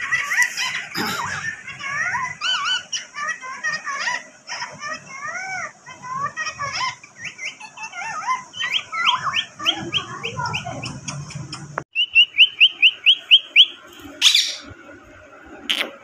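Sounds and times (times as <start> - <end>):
parrot chirping: 0.0 - 14.8.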